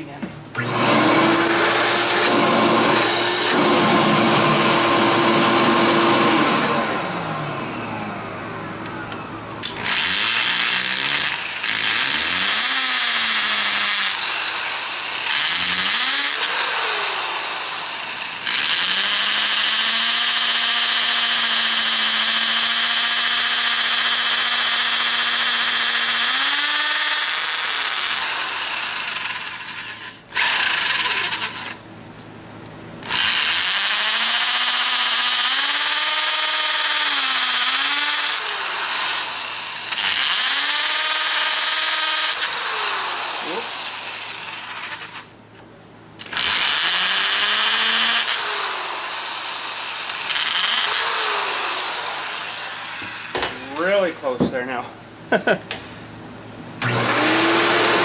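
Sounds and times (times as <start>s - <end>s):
electric drill boring: 0.6s - 8.2s, 9.6s - 31.8s, 33.0s - 45.3s, 46.2s - 53.9s, 56.8s - 58.0s.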